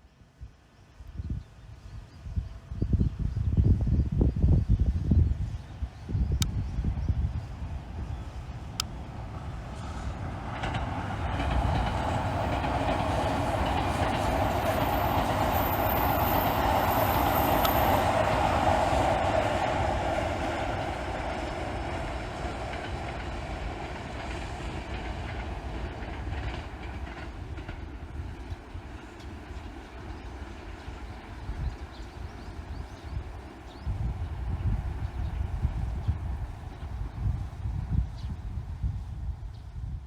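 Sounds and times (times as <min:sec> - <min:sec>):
electric train passing: 0:05.4 - 0:39.4.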